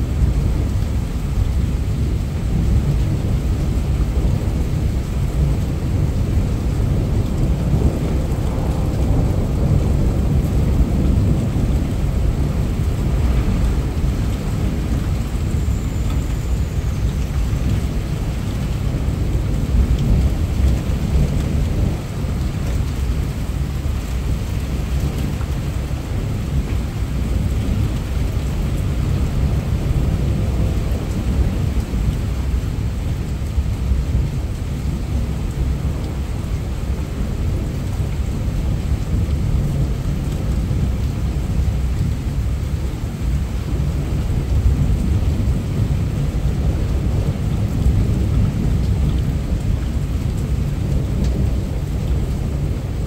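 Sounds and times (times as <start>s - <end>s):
heavy rain: 0.0s - 53.0s
low rumble of thunder: 0.0s - 53.0s.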